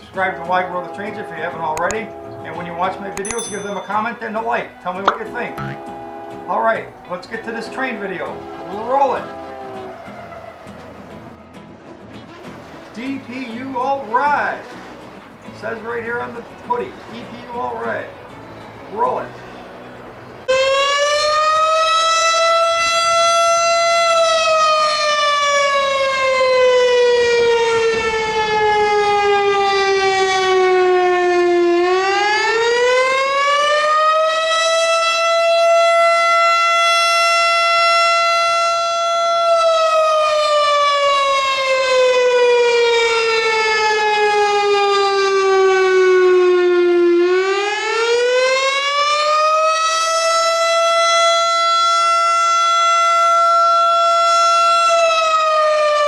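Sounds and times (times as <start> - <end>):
fire siren wailing: 0.0 - 3.3, 3.9 - 11.4, 20.4 - 56.0.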